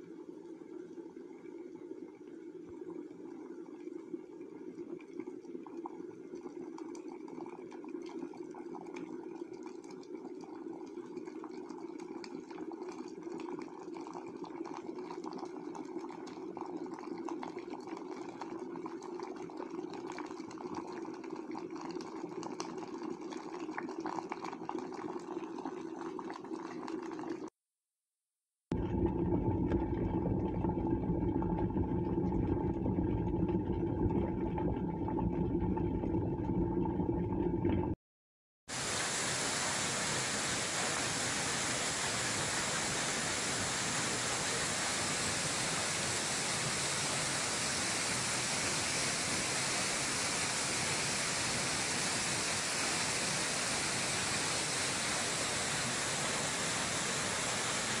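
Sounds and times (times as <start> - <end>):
water boiling: 0.0 - 27.6, 28.7 - 38.0, 38.7 - 58.0.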